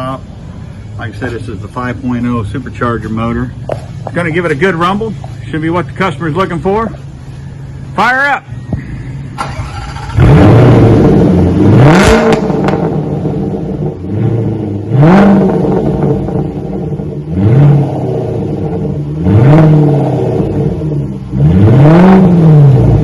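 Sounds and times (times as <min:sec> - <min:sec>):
car engine revving loud exhaust: 0:00.0 - 0:23.0.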